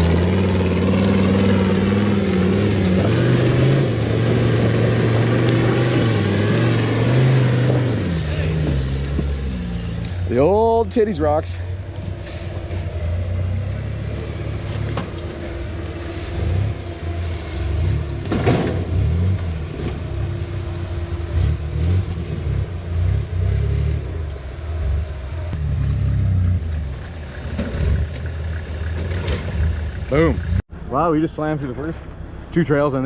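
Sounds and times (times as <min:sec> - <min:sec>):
engine revving: 0:00.0 - 0:10.6, 0:12.2 - 0:30.6.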